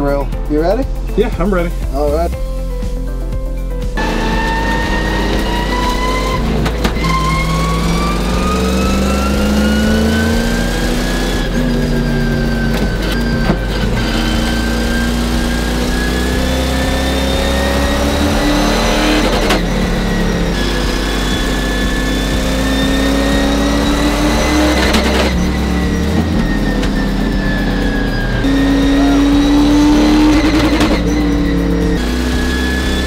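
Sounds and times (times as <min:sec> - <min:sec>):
car engine running hard: 0:04.0 - 0:33.0.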